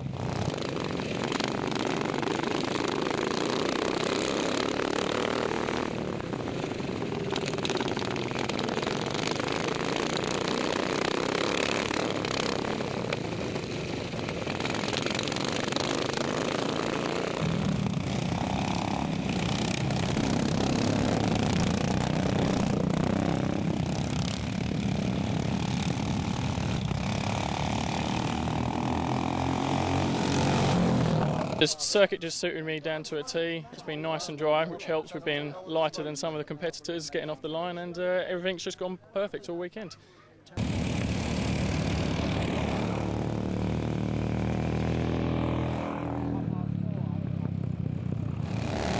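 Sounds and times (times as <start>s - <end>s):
racing lawn mower engines: 0.0s - 33.0s, 40.1s - 48.9s.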